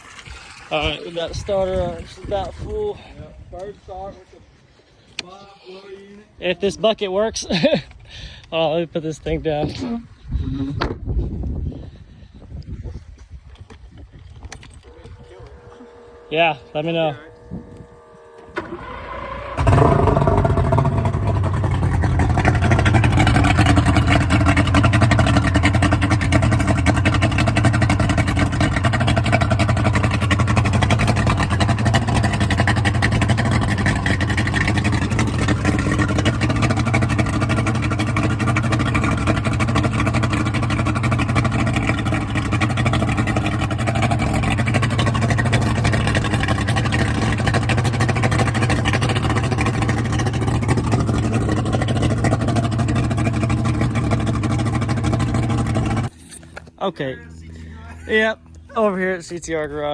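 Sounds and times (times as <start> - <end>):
outboard motor starting and idling: 0.0 - 3.3, 6.4 - 11.0, 14.4 - 56.8.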